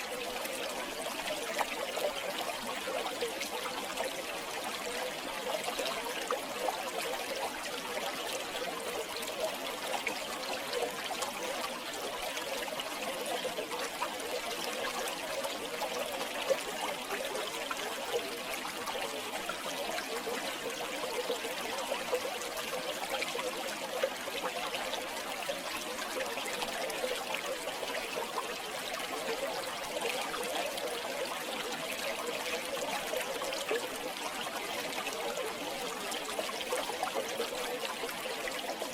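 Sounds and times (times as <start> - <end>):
river water flowing: 0.0 - 38.9
small water splashes: 0.0 - 38.9.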